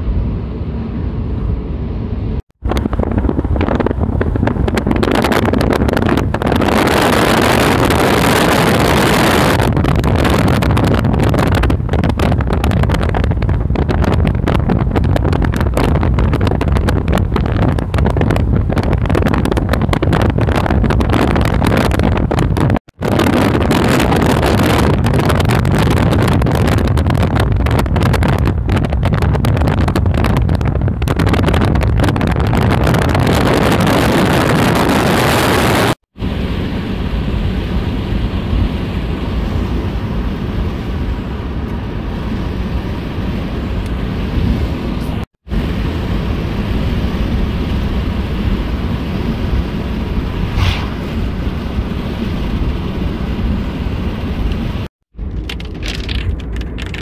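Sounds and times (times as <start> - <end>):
car road and wind noise: 0.0 - 57.0
wind buffeting microphone: 0.0 - 57.0.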